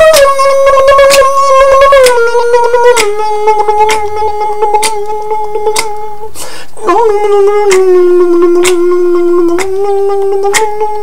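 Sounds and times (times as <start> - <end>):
mouth clicks: 0.0 - 11.0
person beatboxing hummed tone: 0.0 - 11.0.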